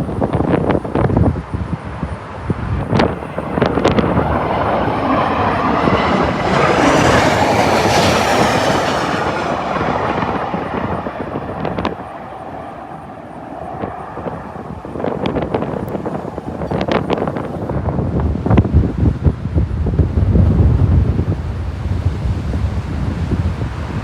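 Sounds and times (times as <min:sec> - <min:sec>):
jet flying low overhead: 0:00.0 - 0:24.0
wind buffeting microphone: 0:00.0 - 0:24.0.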